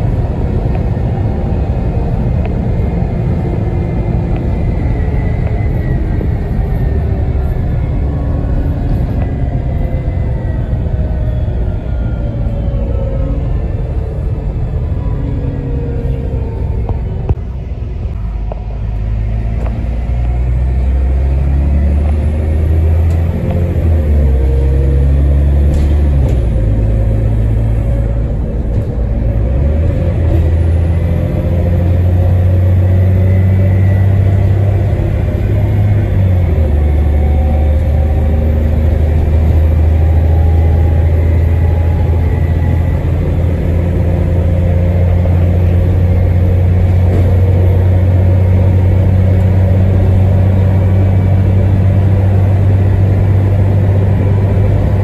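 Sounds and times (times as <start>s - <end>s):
bus engine droning: 0.0s - 55.0s
road noise: 0.0s - 55.0s.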